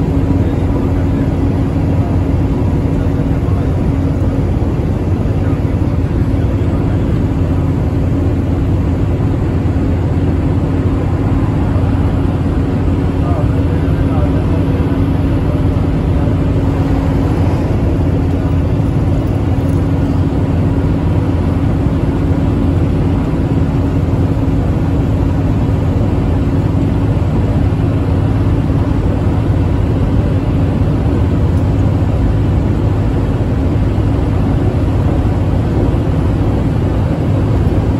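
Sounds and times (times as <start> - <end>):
bus engine drone: 0.0 - 37.9
constant low hum: 0.0 - 37.9
tyre and road noise: 7.5 - 37.9.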